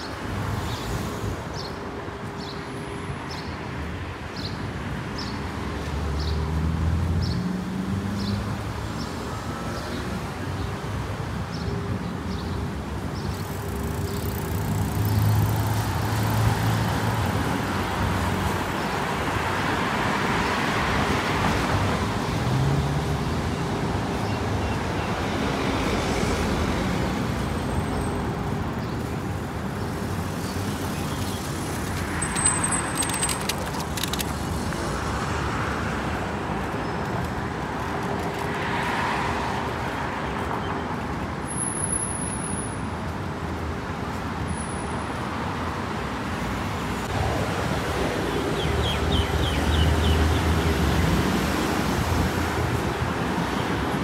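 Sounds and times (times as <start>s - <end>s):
traffic engine and tyre noise: 0.0s - 54.0s
cars passing close by: 2.4s - 54.0s.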